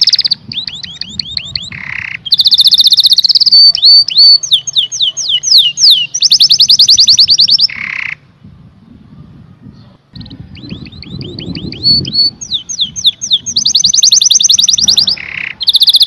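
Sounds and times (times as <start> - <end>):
canary singing: 0.0 - 8.3, 9.7 - 16.0.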